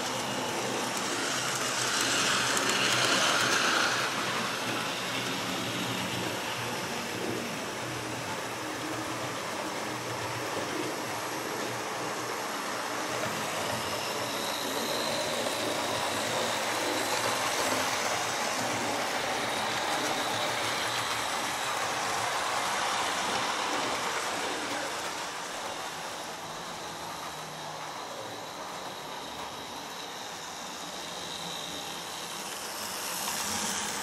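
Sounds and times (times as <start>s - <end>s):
model train running on track: 0.0s - 34.0s.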